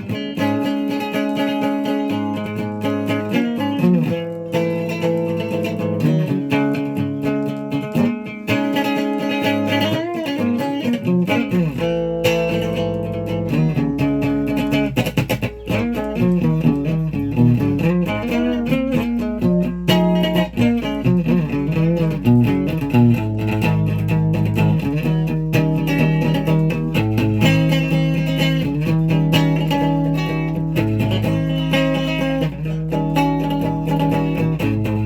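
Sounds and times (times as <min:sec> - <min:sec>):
guitar playing chords: 0:00.0 - 0:35.0.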